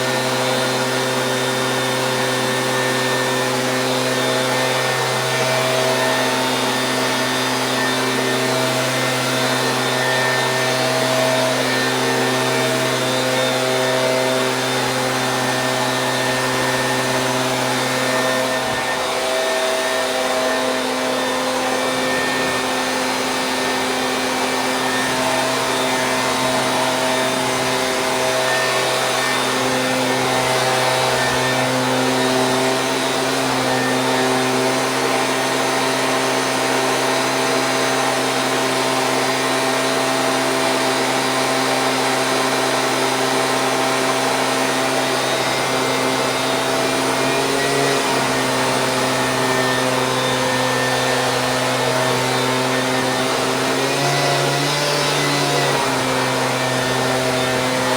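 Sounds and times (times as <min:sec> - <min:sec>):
leaf blower running: 0:00.0 - 0:57.9.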